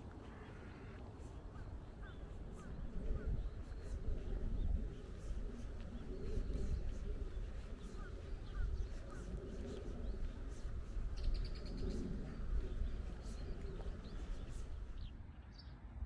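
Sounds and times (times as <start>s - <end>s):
wind rumble on microphone: 0.0s - 15.4s
songbirds chirping: 0.0s - 15.8s
bird trilling: 1.6s - 15.1s.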